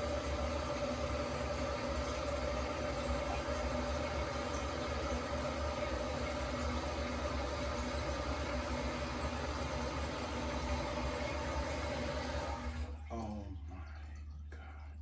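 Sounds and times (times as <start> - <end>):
toilet tank refilling hiss: 0.0 - 13.0.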